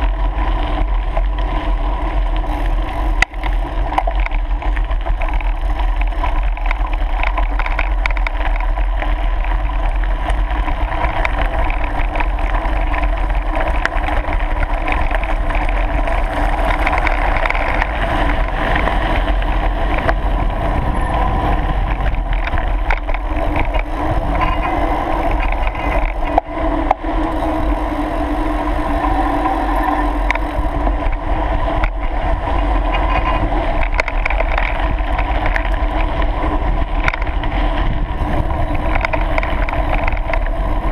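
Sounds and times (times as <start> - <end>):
bike rattling: 0.0 - 40.9
bike tyres rolling on gravel: 0.0 - 40.9
wind rushing over microphone: 0.0 - 40.9.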